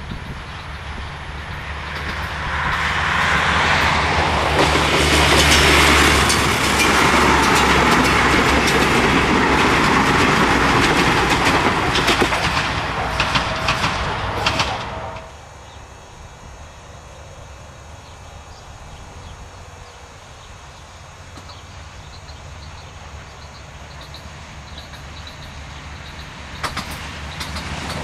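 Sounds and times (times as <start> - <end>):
wheel-on-rail rushing noise: 0.0 - 15.8, 18.0 - 28.0
diesel train passing at speed: 0.0 - 28.0.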